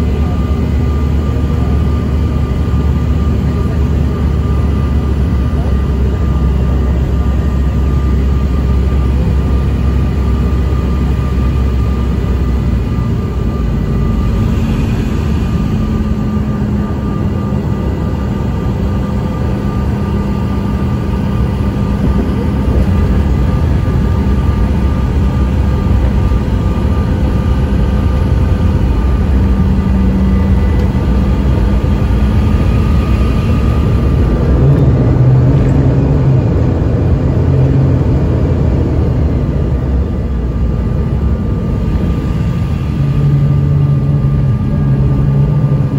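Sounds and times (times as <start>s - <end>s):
jet engines whining: 0.0s - 45.9s
loud low rumble: 0.0s - 45.9s
low tone: 0.0s - 45.9s.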